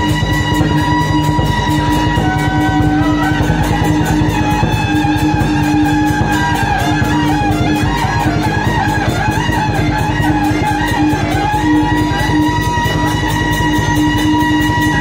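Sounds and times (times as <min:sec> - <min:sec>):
fast percussion beat: 0:00.0 - 0:15.0
held melody line: 0:00.0 - 0:15.0.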